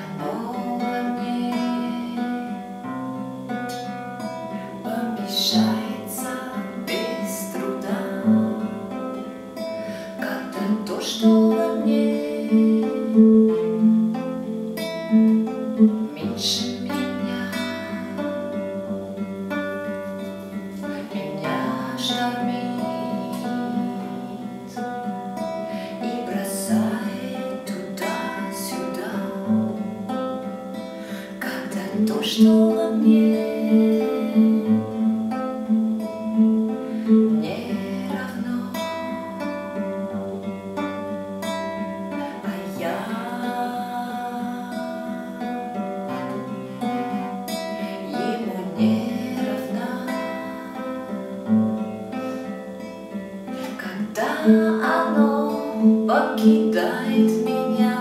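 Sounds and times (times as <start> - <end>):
plucked strings music: 0.0 - 58.0.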